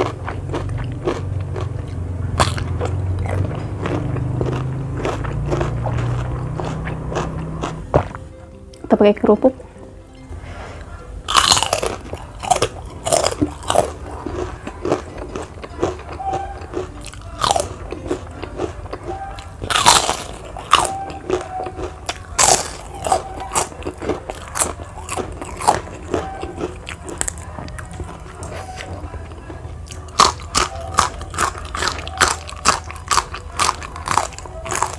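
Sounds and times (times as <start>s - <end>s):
crunching bites of crackers: 0.0s - 8.2s, 11.3s - 34.9s
rapid crunchy chewing: 0.0s - 8.8s, 10.8s - 34.9s.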